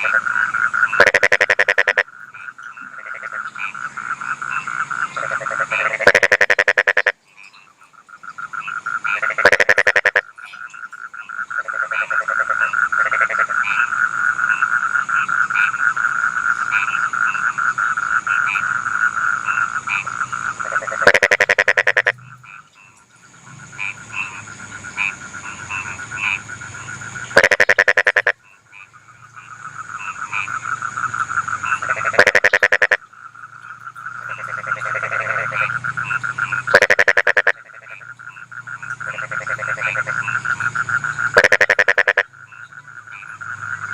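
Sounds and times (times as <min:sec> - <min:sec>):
frog chorus trilling: 0:00.0 - 0:43.9
loud pulsing frog call: 0:00.0 - 0:43.9.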